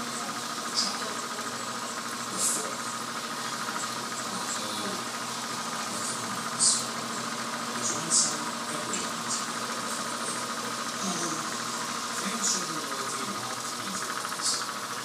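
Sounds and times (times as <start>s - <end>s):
device whirring: 0.0s - 15.0s.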